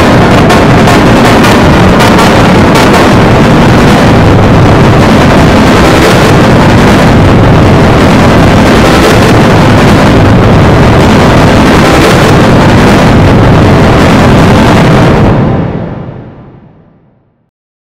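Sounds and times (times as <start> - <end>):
distorted wall of loud noise: 0.0 - 17.5.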